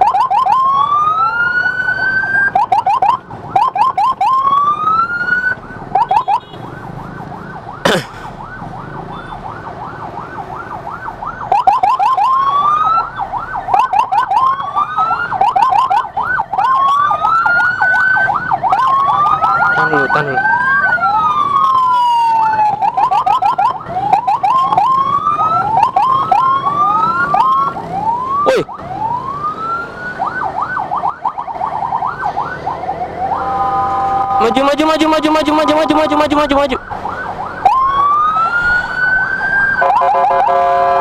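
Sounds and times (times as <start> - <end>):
ambulance siren yelping and wailing: 0.0 - 41.0.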